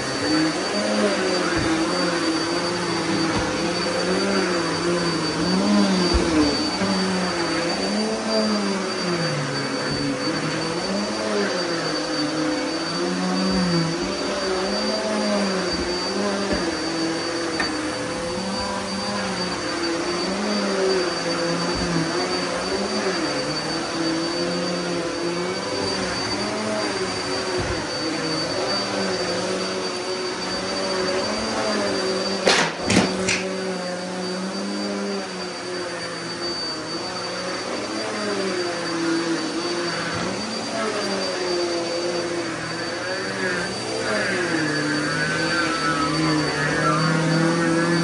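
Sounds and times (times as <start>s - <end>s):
vacuum cleaner on carpet: 0.0s - 48.0s.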